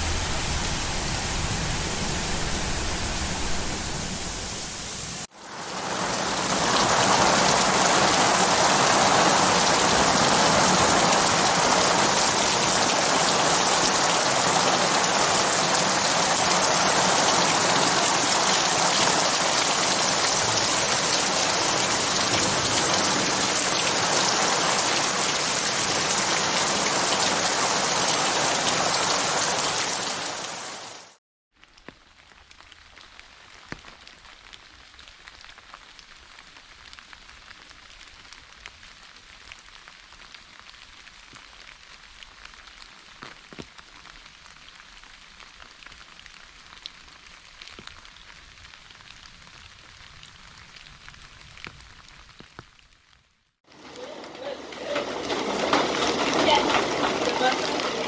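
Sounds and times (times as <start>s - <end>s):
scattered raindrops: 0.0s - 58.0s
steady rain falling: 0.0s - 58.0s.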